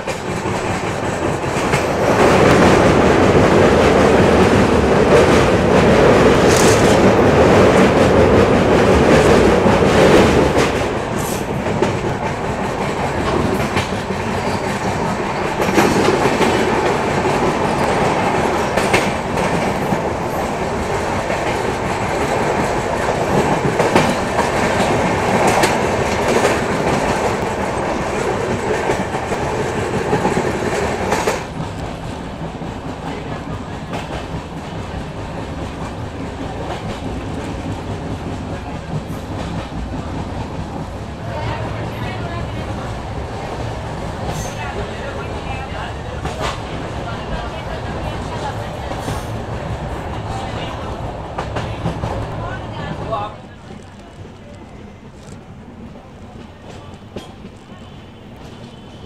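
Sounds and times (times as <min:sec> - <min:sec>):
clickety-clack over rail joints: 0:00.0 - 0:59.0
train wheels rumbling: 0:00.0 - 0:59.0.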